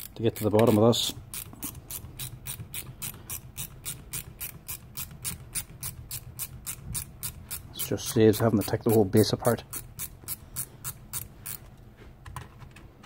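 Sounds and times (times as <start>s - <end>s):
ratchet pawl clicking: 0.0s - 11.6s.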